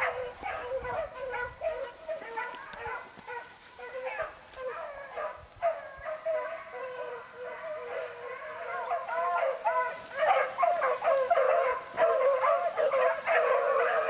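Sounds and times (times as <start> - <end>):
beagles baying: 0.0 - 14.0.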